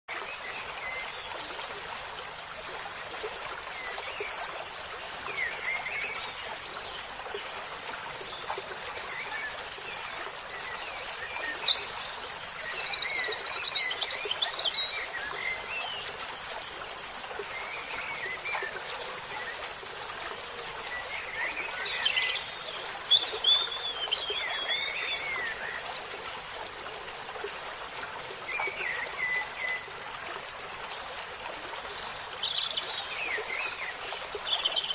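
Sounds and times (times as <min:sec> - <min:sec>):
running stream: 0:00.1 - 0:34.9.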